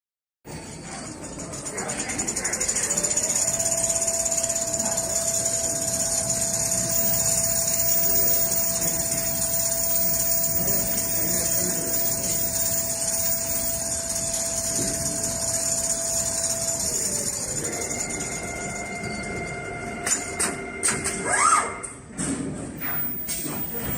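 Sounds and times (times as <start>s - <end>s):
sewing machine running: 0.6s - 20.7s, 22.8s - 23.9s.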